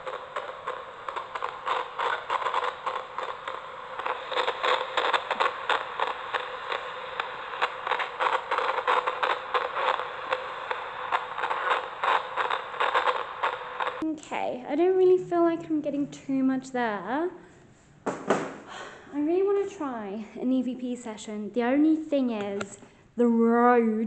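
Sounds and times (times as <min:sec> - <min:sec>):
crackling static: 0:00.0 - 0:24.0
faint steady hum: 0:00.0 - 0:24.0.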